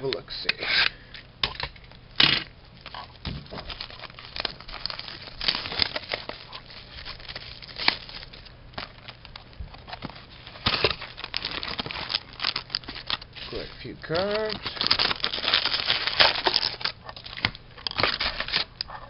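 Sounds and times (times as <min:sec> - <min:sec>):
paper crinkling and rustling: 0:02.8 - 0:18.8.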